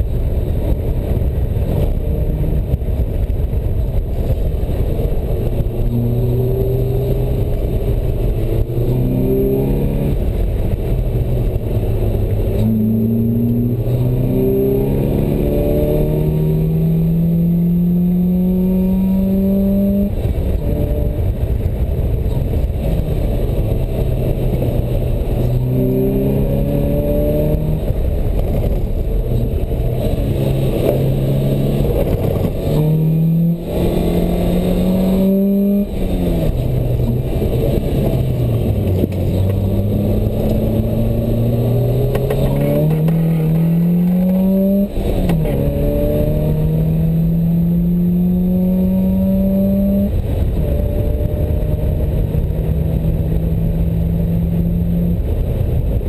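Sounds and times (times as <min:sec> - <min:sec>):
sports car engine revving: 0:00.0 - 0:55.8
wind and road noise: 0:00.0 - 0:56.0.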